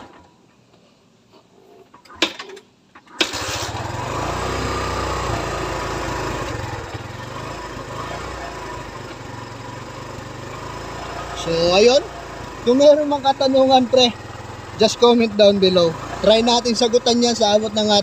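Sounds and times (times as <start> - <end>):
motorcycle engine running: 3.3 - 18.0.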